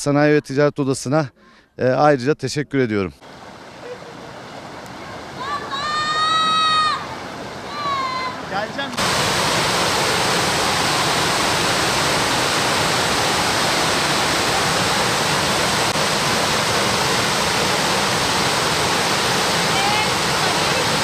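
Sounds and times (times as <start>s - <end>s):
waterfall rushing: 3.2s - 21.0s.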